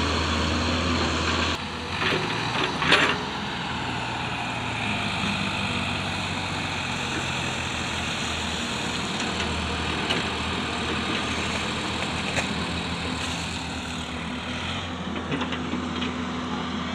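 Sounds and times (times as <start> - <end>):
heavy machinery engine humming: 0.0 - 16.9.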